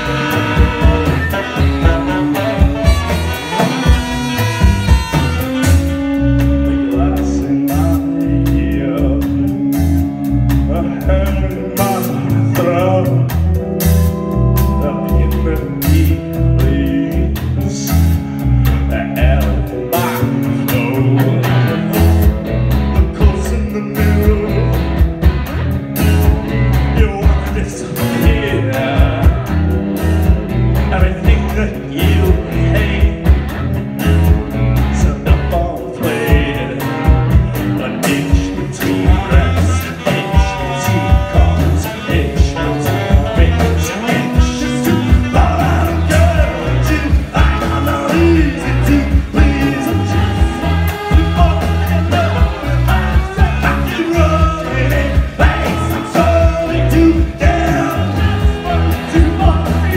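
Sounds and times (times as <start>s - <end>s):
lead singer singing: 0.0s - 18.2s, 18.8s - 25.1s, 26.8s - 33.6s, 34.8s - 59.9s
drum kit: 0.0s - 59.9s
electric guitar: 0.0s - 59.9s
keyboard: 0.0s - 59.9s.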